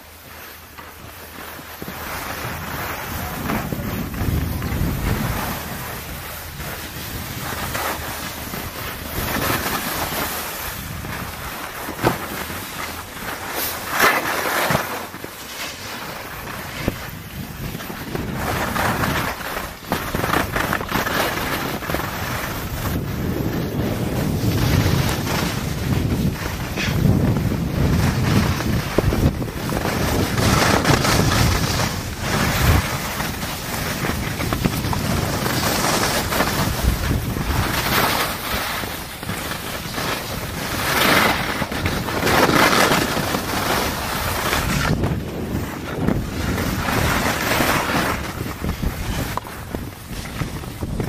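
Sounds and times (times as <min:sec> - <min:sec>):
skis sliding over snow: 0:00.0 - 0:51.0
wind buffeting microphone: 0:01.8 - 0:13.2, 0:16.2 - 0:51.0.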